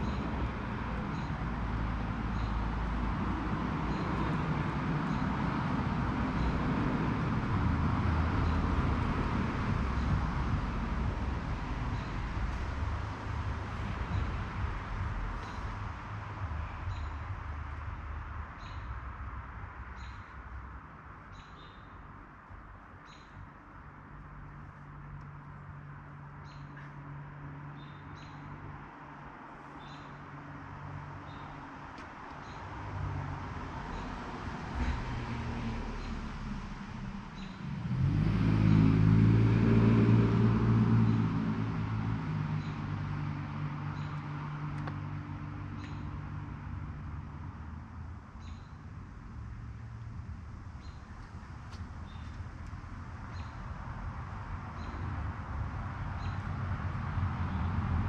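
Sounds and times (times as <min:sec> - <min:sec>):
vehicle passing by: 0:00.0 - 0:20.1, 0:24.1 - 0:58.0.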